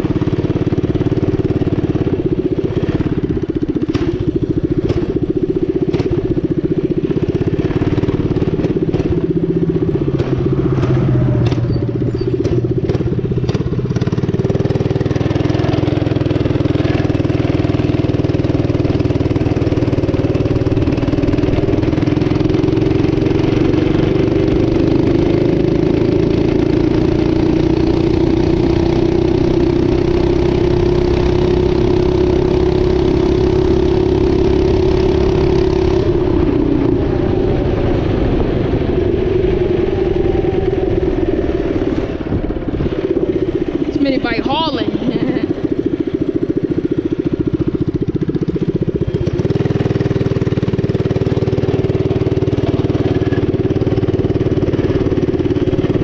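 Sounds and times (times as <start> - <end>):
mini bike engine running hard: 0.0 - 56.0.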